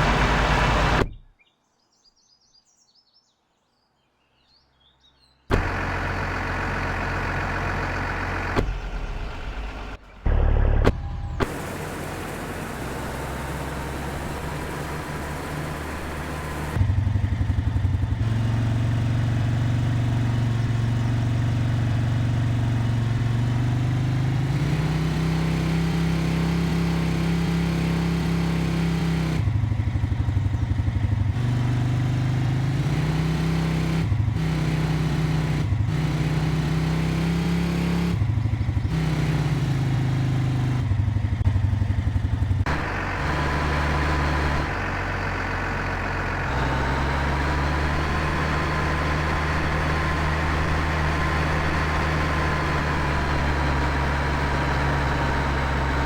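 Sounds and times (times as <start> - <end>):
engine running: 0.0 - 1.3, 5.5 - 56.0.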